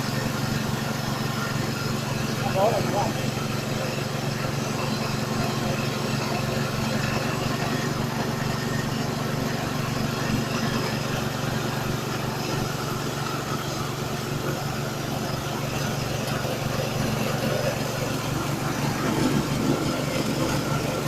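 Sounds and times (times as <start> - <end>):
machine engine hum: 0.0 - 21.0
rushing noise of milling: 0.0 - 21.0.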